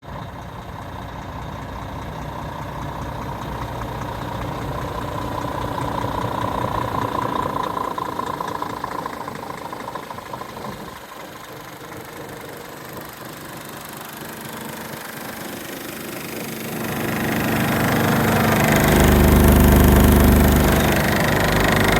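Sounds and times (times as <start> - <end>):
truck diesel engine idling: 0.0 - 21.9.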